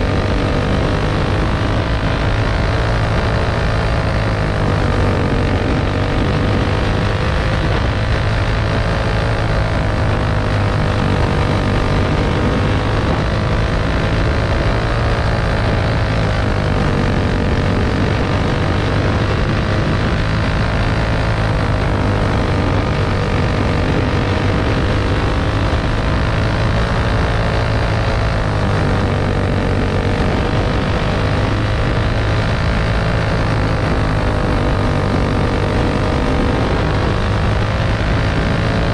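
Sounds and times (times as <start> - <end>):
race engine running hard: 0.0 - 38.9.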